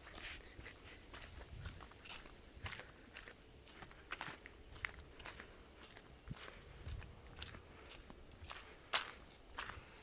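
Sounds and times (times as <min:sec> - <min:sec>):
footsteps crunching on dry ground: 0:00.0 - 0:10.0.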